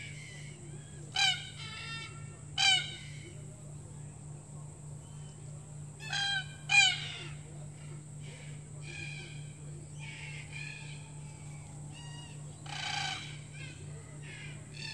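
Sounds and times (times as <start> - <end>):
cockatoos calling: 0.0 - 3.8, 5.1 - 14.9.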